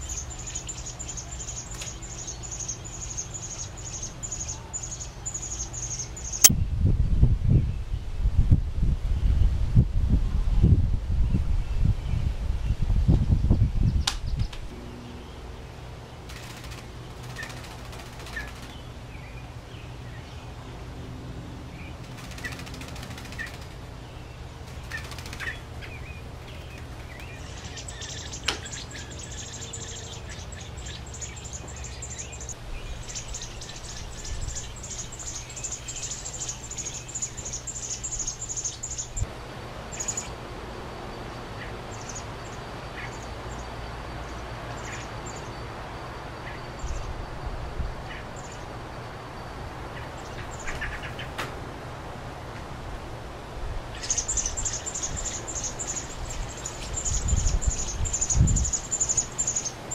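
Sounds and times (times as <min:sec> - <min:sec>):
birds chirping: 0:00.0 - 0:06.8, 0:11.2 - 0:53.2, 0:53.8 - 0:59.9.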